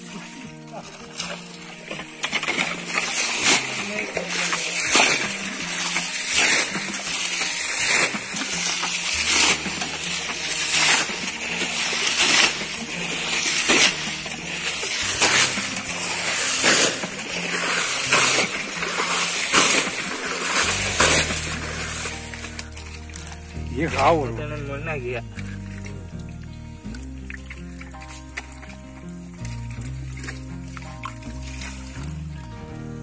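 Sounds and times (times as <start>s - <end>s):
water splashing onto bank: 0.0s - 33.0s.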